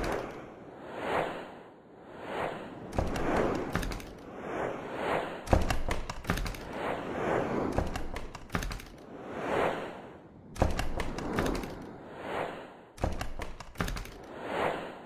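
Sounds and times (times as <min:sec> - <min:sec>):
whooshes: 0:00.0 - 0:15.0.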